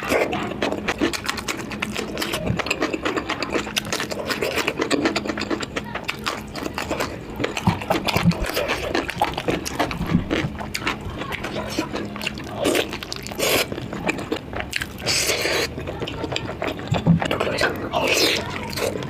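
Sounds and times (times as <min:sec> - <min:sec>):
wet chewing and smacking: 0:00.0 - 0:19.0.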